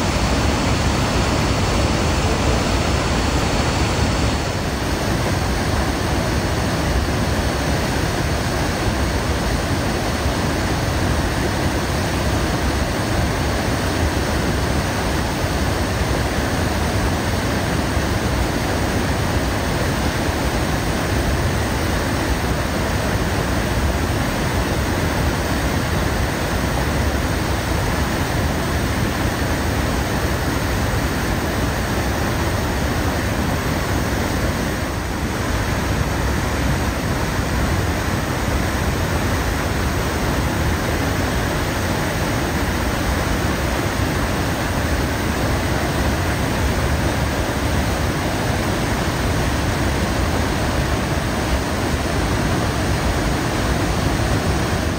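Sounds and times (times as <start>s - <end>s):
loud steady rushing noise: 0.0s - 54.9s.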